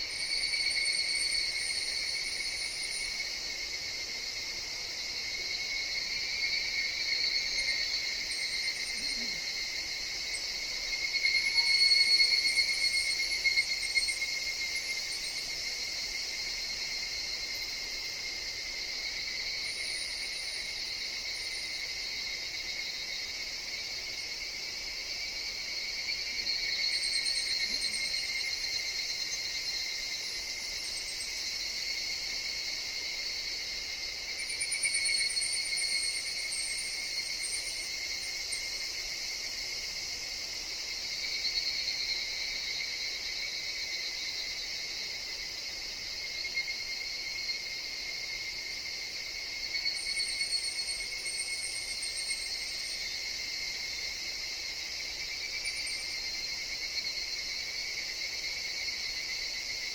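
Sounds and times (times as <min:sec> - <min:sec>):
cicadas shrilling: 0:00.0 - 0:59.9.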